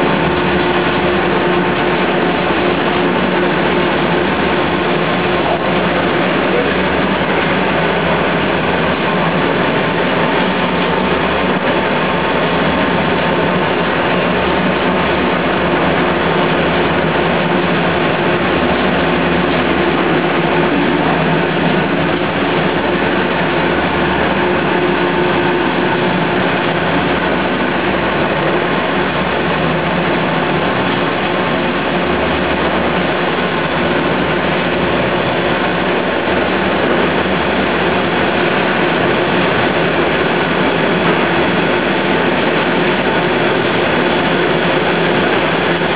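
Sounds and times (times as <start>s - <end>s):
production line machinery noise: 0.0s - 45.9s.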